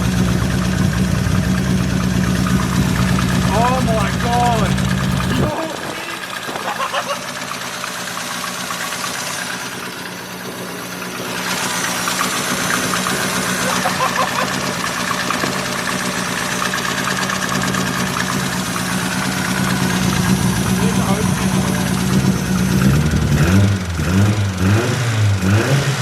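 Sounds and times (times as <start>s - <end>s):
car engine idling with light tapping: 0.0s - 24.6s.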